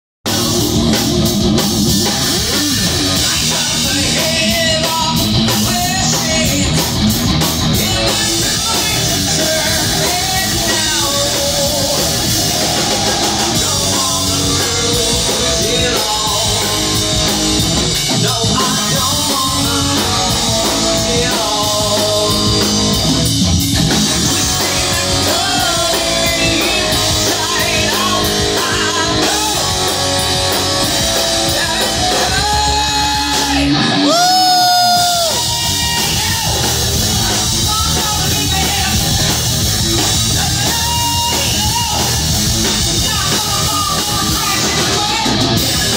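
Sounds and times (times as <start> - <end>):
distorted electric guitars: 0.2 - 45.9
drum kit: 0.2 - 45.9
person singing: 2.0 - 7.0, 7.6 - 23.3, 24.1 - 45.9.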